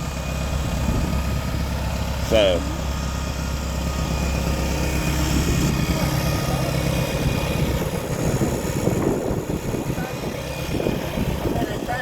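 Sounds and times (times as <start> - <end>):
tractor engine chugging: 0.0 - 12.0.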